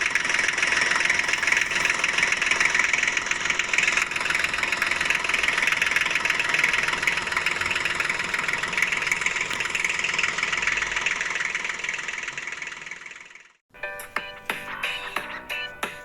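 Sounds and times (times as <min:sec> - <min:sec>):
toy tractor buzzing whir: 0:00.0 - 0:13.4.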